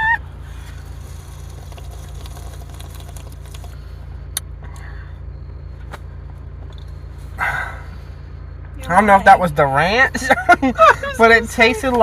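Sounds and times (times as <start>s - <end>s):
low rumble inside car cabin: 0.0s - 12.0s.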